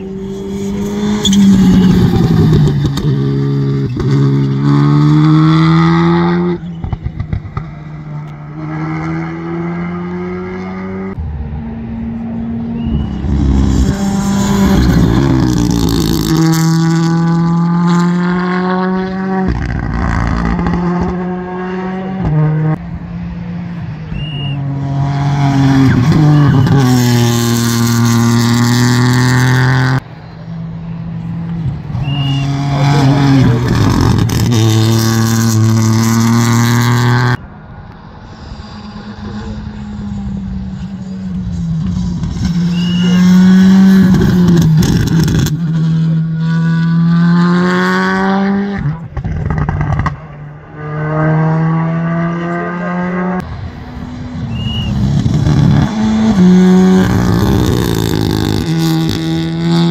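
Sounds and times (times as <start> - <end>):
rally car engines revving past: 0.0 - 59.9.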